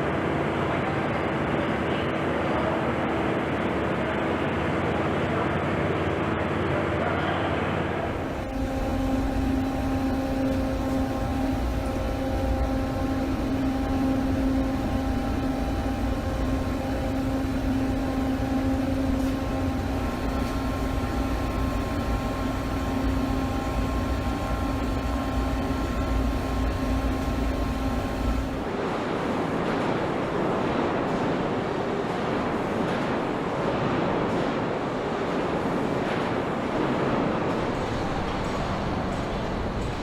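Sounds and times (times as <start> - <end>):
machinery humming: 0.0 - 40.0.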